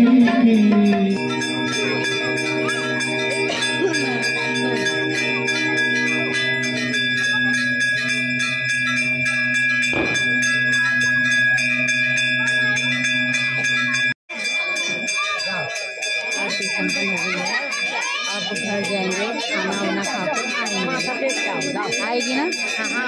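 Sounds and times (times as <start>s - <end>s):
bells ringing rapidly: 0.0s - 23.0s.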